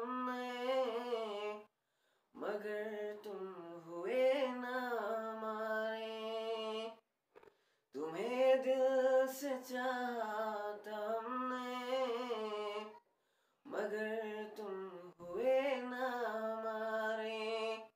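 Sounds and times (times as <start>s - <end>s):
man singing unaccompanied: 0.0s - 1.7s, 2.4s - 7.0s, 8.0s - 13.0s, 13.7s - 17.9s.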